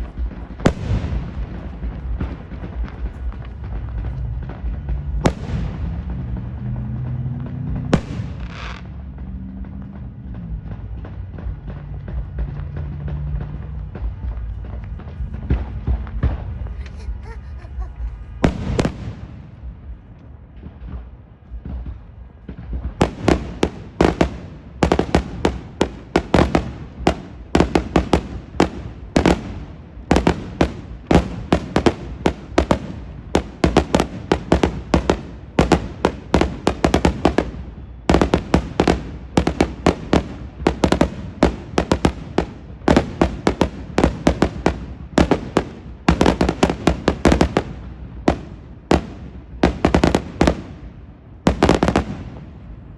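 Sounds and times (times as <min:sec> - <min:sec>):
firecracker bangs: 0:00.0 - 0:52.9.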